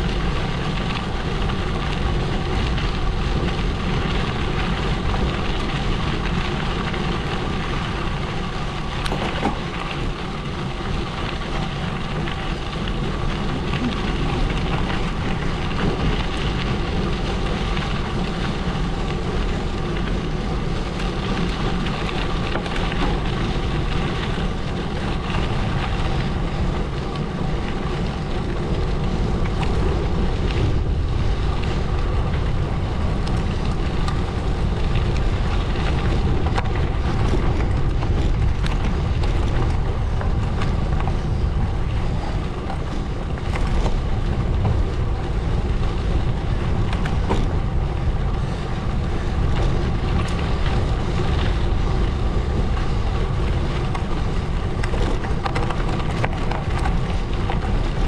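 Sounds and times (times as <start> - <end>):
bike tyres crunching on gravel: 0.0 - 58.0
wind noise on microphone: 0.0 - 58.0.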